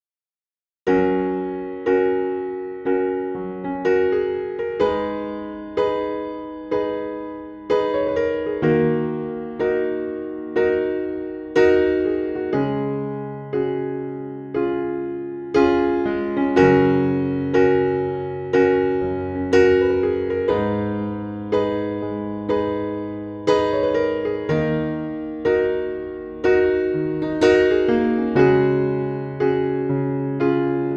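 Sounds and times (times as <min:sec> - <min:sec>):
slow electric piano melody: 0:00.9 - 0:30.9.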